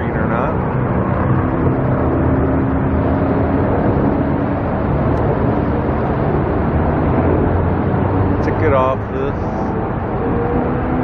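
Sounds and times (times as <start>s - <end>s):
engine drone with low hum: 0.0s - 11.0s.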